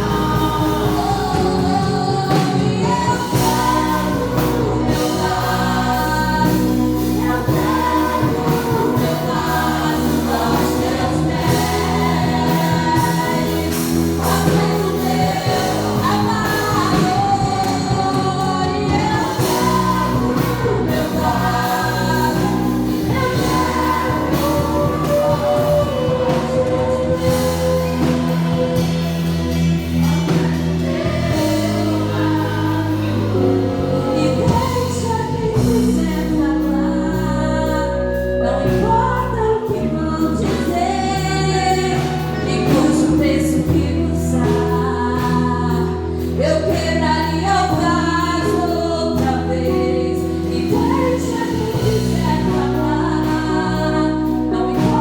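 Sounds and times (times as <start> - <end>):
bass and keyboard accompaniment: 0.0 - 55.0
group of voices singing: 0.0 - 55.0.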